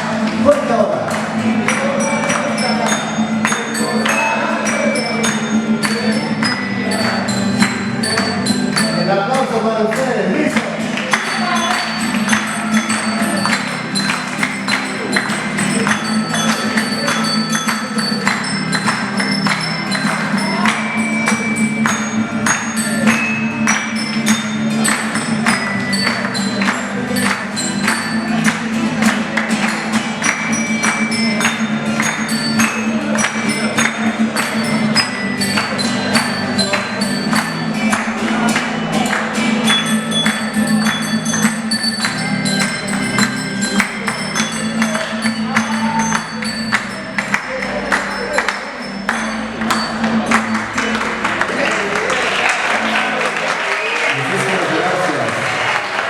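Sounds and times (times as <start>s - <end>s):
percussion strokes: 0.0s - 53.4s
ringing folk melody: 0.0s - 53.7s.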